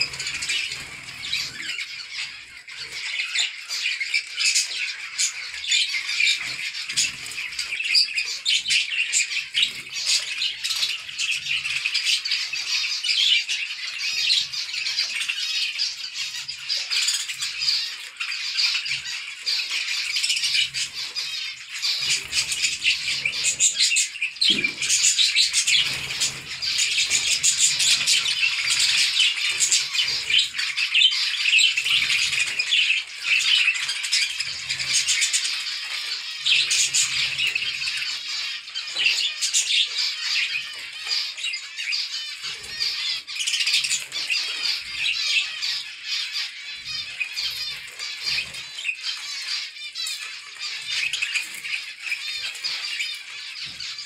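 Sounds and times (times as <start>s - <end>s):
finches chattering: 0.0s - 54.0s.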